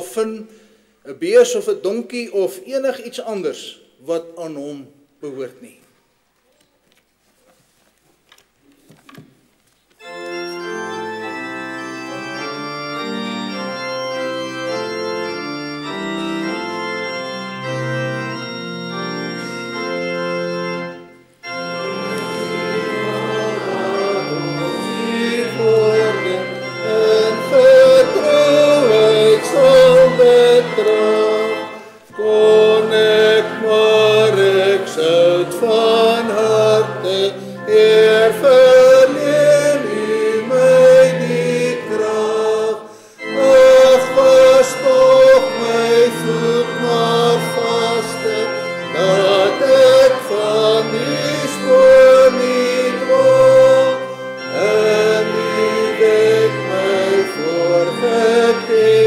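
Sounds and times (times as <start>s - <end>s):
church organ chords: 10.0s - 59.0s
congregation singing: 10.0s - 59.0s.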